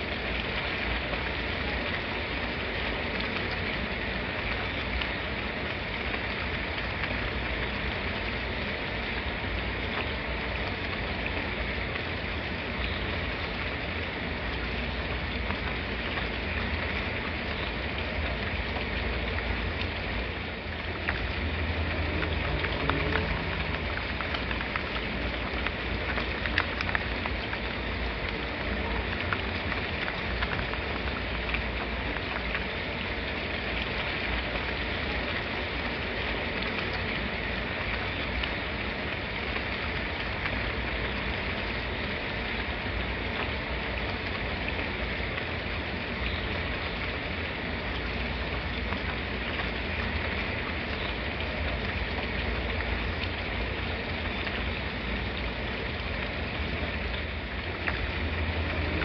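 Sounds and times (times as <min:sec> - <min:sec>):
raindrops ticking and splashing: 0:00.0 - 0:59.0
steady rain hiss: 0:00.0 - 0:59.0.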